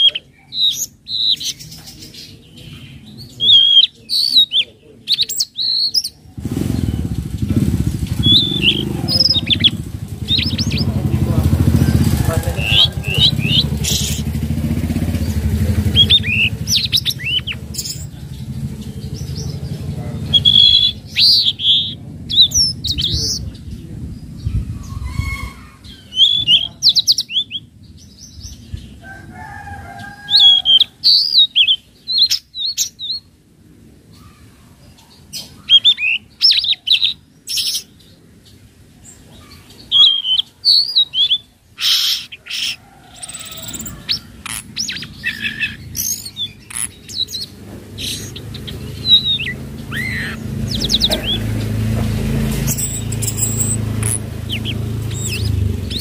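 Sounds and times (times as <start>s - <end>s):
bird warbling chirps: 0.0s - 33.3s, 39.1s - 56.0s.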